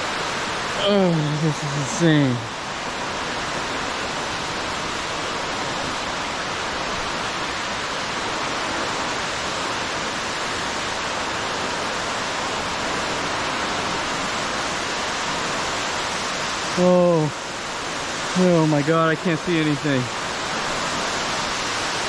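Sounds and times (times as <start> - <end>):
underground waterfall rushing: 0.0 - 22.0.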